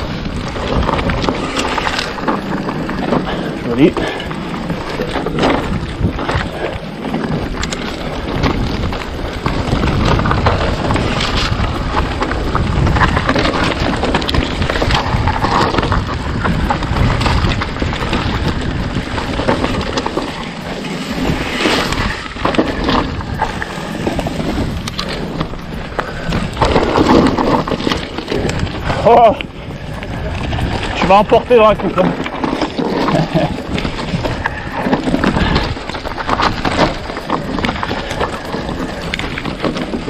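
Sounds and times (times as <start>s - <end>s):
bike tyres rumbling on dirt: 0.0s - 40.0s
small clicks and rattles: 0.0s - 40.0s
wind buffeting microphone: 0.0s - 40.0s.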